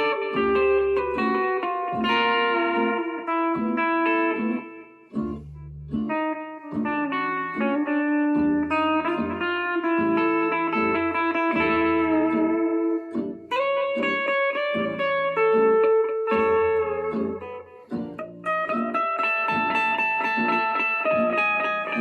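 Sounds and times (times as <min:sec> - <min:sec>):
backing track with bass line: 0:00.0 - 0:22.0
guitar sustained notes: 0:00.0 - 0:22.0.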